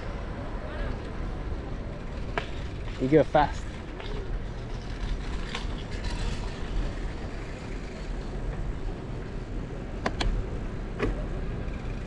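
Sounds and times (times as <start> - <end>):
bicycle rolling on street: 0.0 - 12.0.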